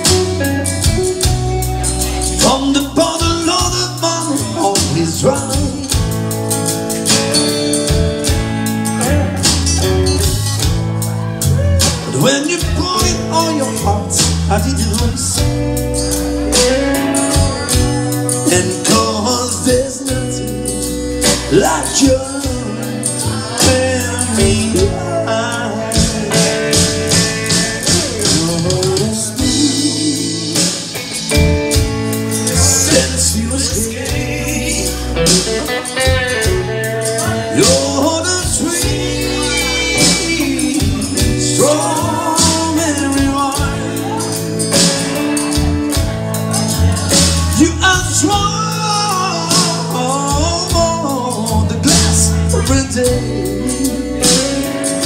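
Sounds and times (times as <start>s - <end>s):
bass and drums beat: 0.0s - 55.0s
electric guitar: 0.0s - 55.0s
man singing: 0.0s - 55.0s.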